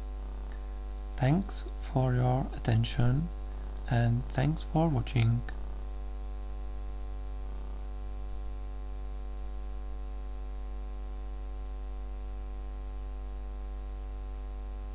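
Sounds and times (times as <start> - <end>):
electrical mains hum: 0.0 - 14.9.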